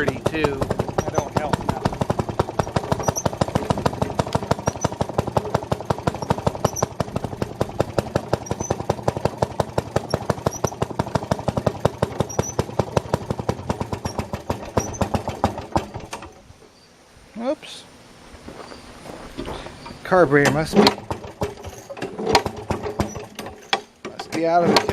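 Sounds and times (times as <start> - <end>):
two-stroke engine popping: 0.0 - 16.5, 19.8 - 24.9.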